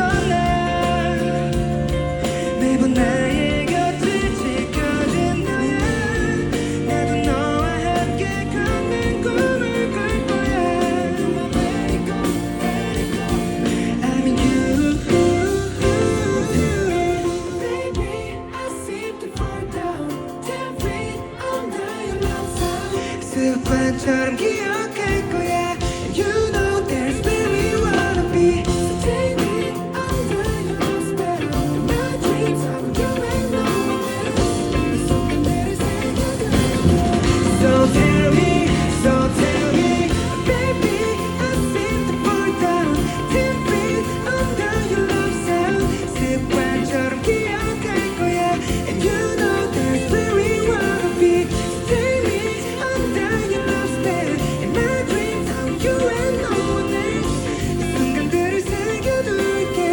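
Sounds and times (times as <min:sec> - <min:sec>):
live pop-rock band music: 0:00.0 - 0:59.9
man singing: 0:00.0 - 0:59.9.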